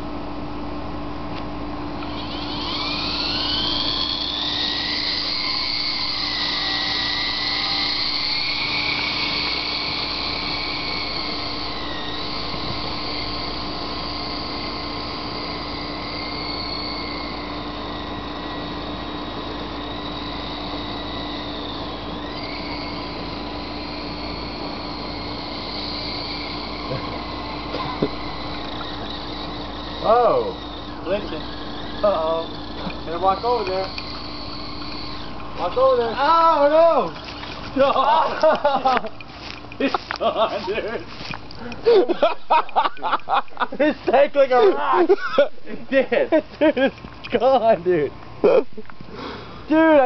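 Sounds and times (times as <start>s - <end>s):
model helicopter rotor whine: 1.9s - 50.0s.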